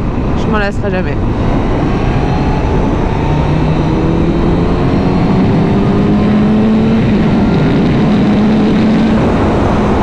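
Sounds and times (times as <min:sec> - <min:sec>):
heavy wind rush: 0:00.0 - 0:10.0
motorcycle engine accelerating: 0:00.0 - 0:10.0.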